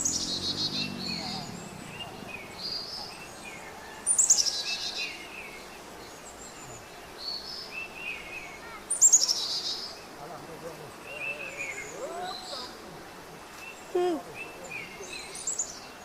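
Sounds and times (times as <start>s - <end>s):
loud falling bird song phrases: 0.0s - 10.2s, 10.9s - 16.0s.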